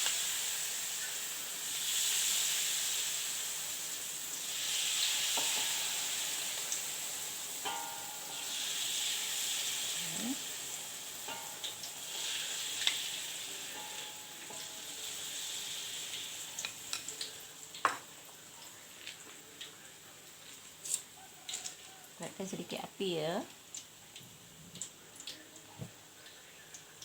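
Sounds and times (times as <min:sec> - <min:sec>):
food deep-frying in hot oil: 0:00.0 - 0:27.0.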